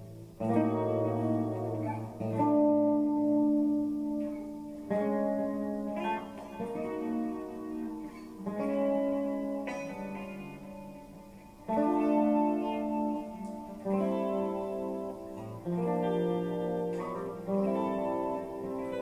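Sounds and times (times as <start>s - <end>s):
slow guitar music: 0.0s - 19.0s.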